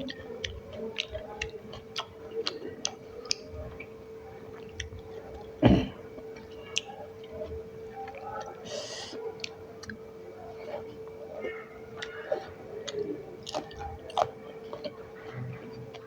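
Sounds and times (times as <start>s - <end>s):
person chewing: 0.0s - 3.9s, 4.5s - 16.0s
faint hum: 0.0s - 16.0s.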